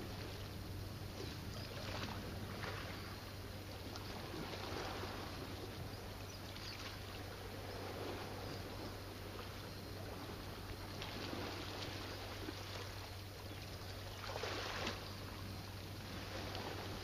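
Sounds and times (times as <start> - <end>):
small waves lapping on rocks: 0.0 - 17.0
steady low hum: 0.0 - 17.0.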